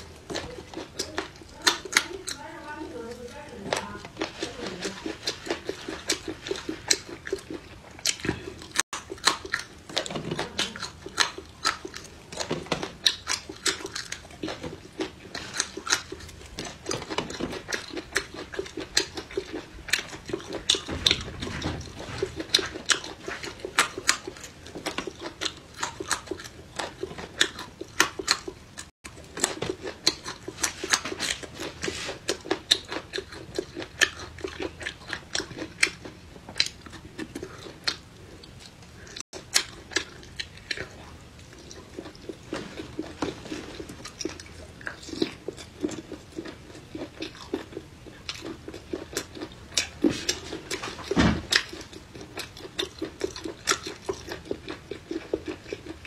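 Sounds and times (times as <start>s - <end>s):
person chewing crunchy peppers: 0.0s - 56.0s.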